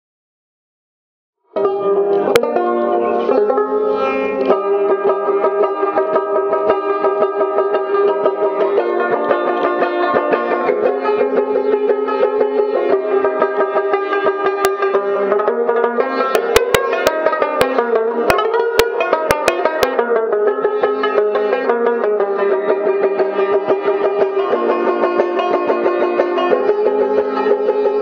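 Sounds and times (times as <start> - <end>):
plucked string melody with drone: 1.5 - 28.0.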